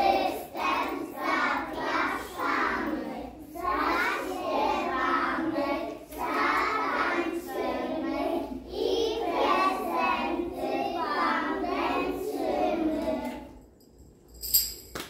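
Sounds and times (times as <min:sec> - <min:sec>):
children singing: 0:00.0 - 0:13.6.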